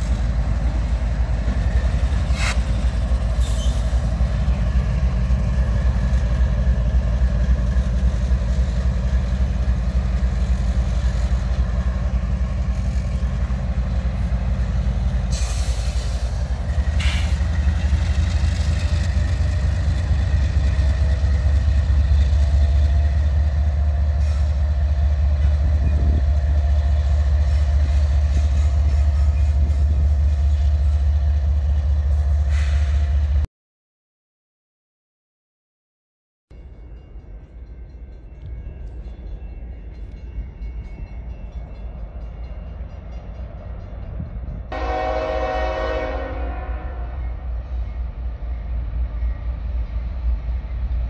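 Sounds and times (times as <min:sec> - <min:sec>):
diesel locomotive engine rumble: 0:00.0 - 0:33.5, 0:36.5 - 0:51.0.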